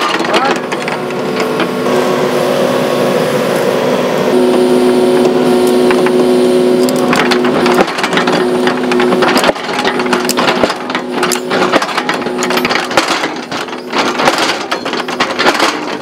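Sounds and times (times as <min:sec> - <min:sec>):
excavator diesel engine under load: 0:00.0 - 0:16.0.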